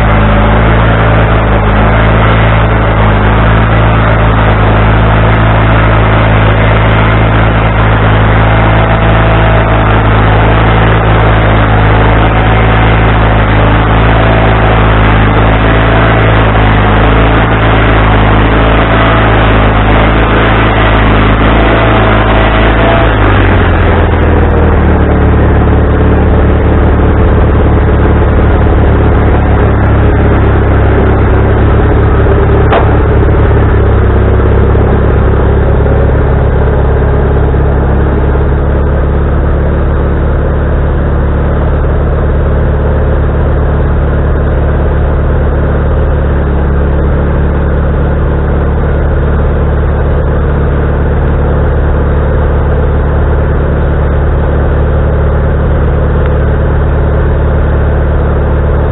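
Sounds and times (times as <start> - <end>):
band blade whine: 0.0 - 58.9
sawmill engine drone: 0.0 - 58.9.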